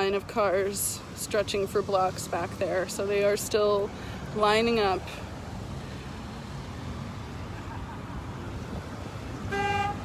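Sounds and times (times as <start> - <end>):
slow-moving traffic rumble: 0.0 - 10.0.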